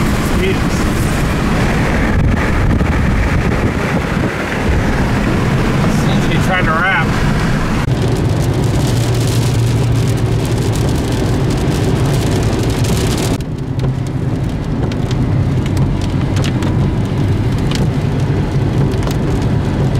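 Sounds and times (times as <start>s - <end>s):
car engine and tyre drone: 0.0s - 19.9s
rain hitting glass and roof: 0.0s - 19.9s
raindrops ticking on windshield: 0.0s - 19.9s.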